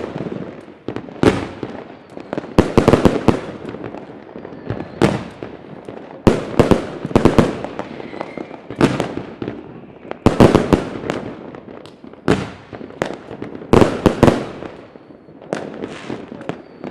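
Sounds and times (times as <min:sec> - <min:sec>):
firework bangs: 0:00.0 - 0:16.9
firework crackle: 0:00.0 - 0:16.9.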